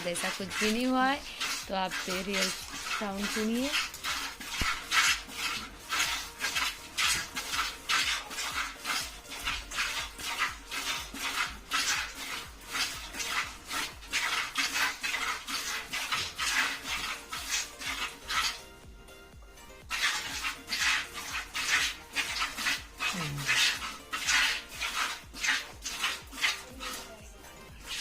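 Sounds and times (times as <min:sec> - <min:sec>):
milk squirting into a pail: 0:00.0 - 0:18.8, 0:19.7 - 0:28.0.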